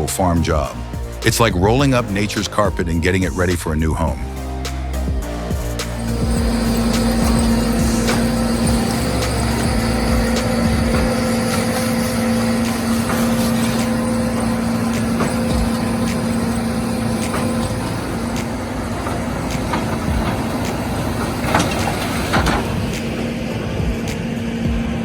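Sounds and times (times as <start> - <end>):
farm machine engine droning: 0.0 - 25.0.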